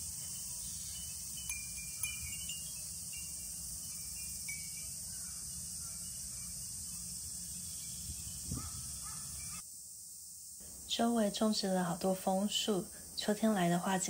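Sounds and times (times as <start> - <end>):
insects droning: 0.0 - 14.0
outdoor background noise: 0.0 - 14.0.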